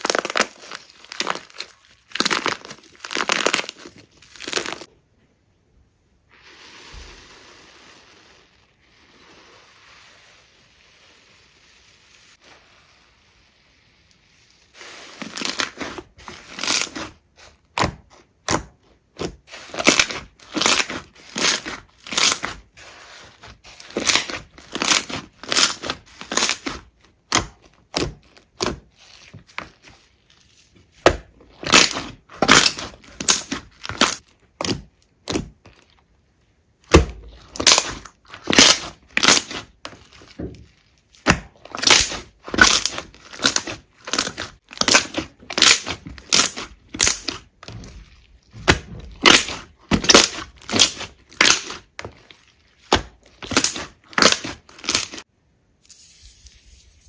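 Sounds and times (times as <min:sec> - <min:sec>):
hands squishing crackly slime: 0:00.0 - 0:04.9, 0:12.2 - 0:55.3.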